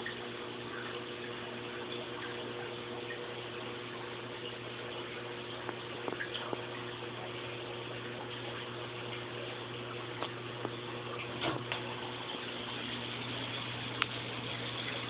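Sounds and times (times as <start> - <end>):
low pump hum: 0.0 - 15.0
water rushing in aquarium: 0.0 - 15.0.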